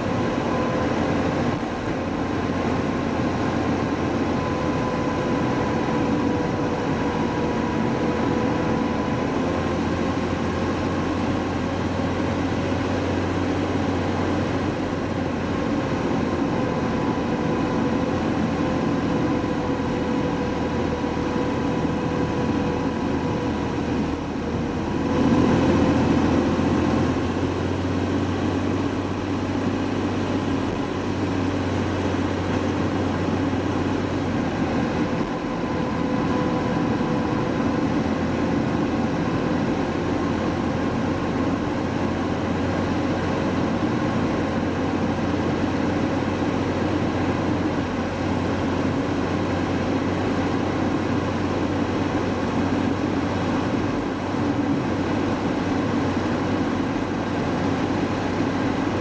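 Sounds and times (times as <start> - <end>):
car engine: 0.0 - 59.0
steady whine: 0.0 - 59.0.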